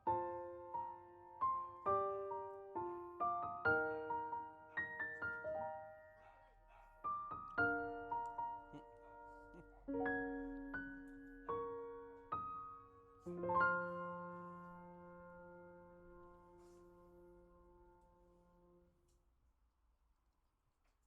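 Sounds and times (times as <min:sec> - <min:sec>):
piano music: 0:00.0 - 0:06.2, 0:07.0 - 0:18.8.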